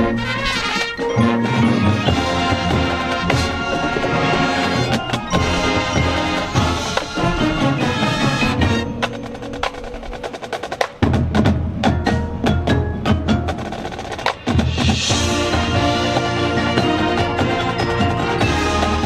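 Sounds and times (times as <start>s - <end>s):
marching band drum strikes: 2.0s - 19.0s.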